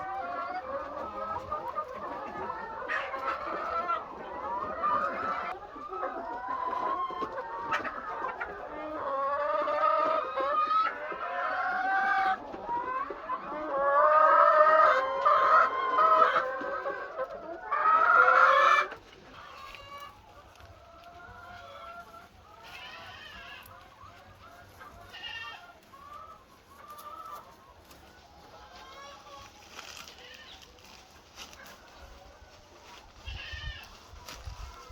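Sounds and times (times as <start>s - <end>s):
hens clucking and squawking: 0.0s - 34.9s.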